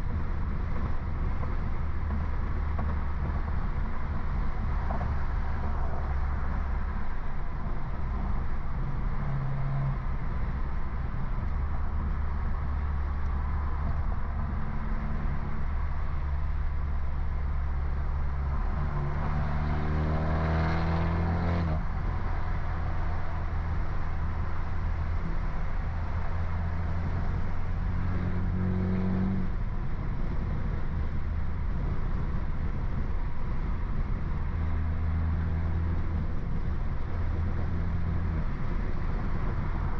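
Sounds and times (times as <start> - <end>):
car engine and exhaust drone: 0.0 - 39.9.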